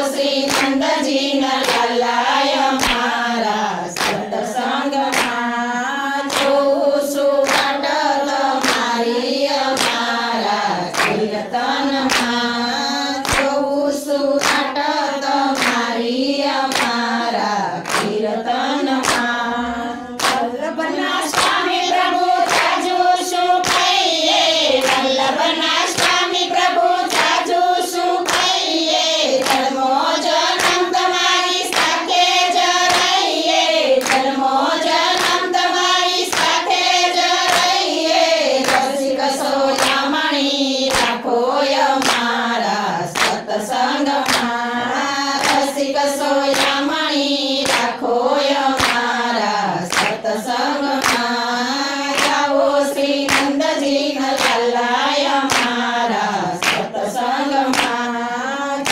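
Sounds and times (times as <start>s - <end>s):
hands clapping in steady beat: 0.0s - 58.9s
women singing together: 0.0s - 58.9s.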